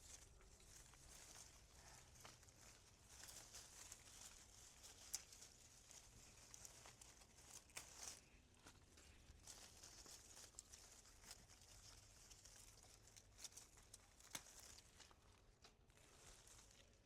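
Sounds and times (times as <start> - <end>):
faint rustling: 0.0 - 17.0.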